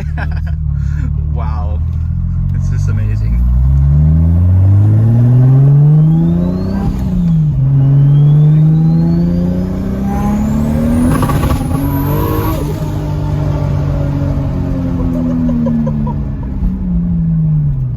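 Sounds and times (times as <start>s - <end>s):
car engine accelerating: 0.0s - 17.9s.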